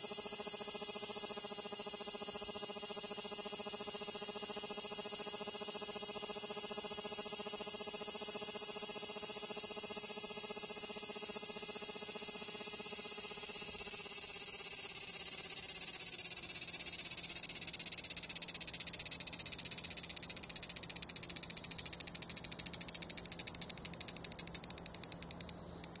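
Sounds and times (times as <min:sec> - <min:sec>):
cicada buzzing: 0:00.0 - 0:26.0.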